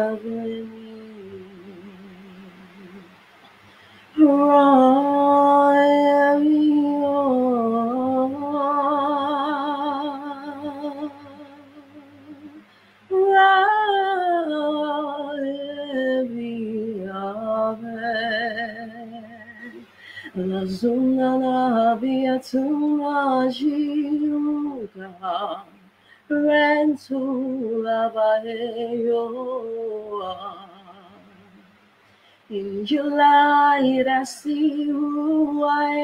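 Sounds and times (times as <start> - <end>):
woman singing solo: 0.0 - 3.2, 3.9 - 31.8, 32.4 - 36.0.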